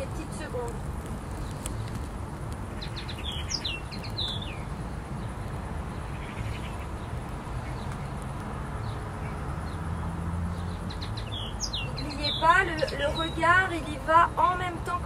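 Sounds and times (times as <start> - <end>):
low outdoor background hum: 0.0 - 15.0
songbird chirping: 0.0 - 15.0.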